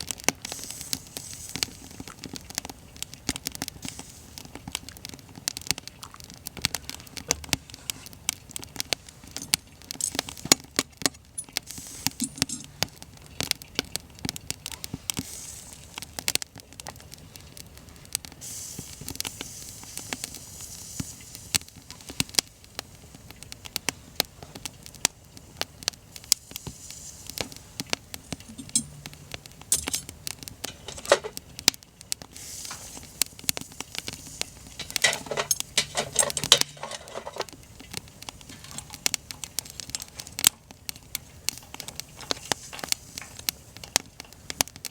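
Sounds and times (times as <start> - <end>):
faint hiss: 0.0 - 44.9
wood fire crackling: 0.0 - 44.9.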